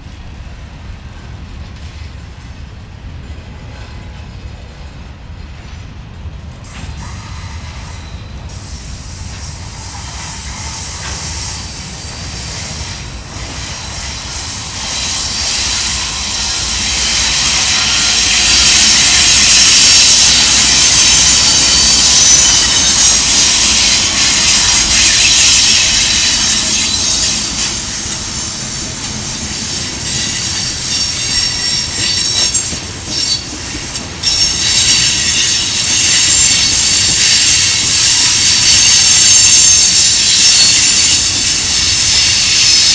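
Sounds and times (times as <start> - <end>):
low train rumble: 0.0 - 42.9
train wheels squealing on rails: 0.0 - 42.9.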